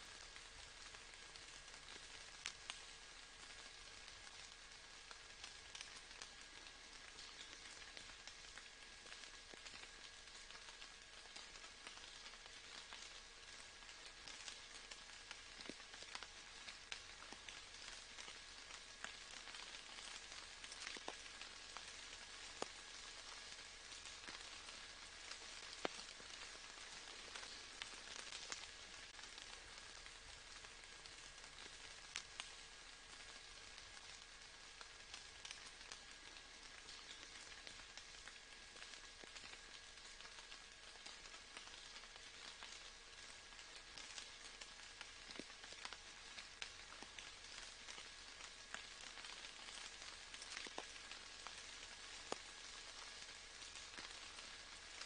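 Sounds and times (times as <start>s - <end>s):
faint steady rain: 0.0s - 55.0s
raindrops ticking: 0.0s - 55.0s.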